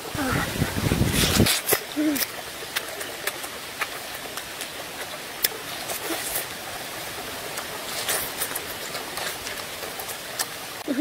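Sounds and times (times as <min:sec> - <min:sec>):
steady hiss: 0:00.0 - 0:11.0
person chewing bamboo shoot: 0:01.2 - 0:10.6.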